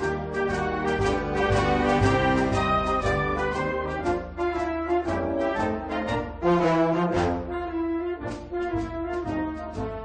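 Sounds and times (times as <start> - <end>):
brass band playing: 0.0 - 10.0.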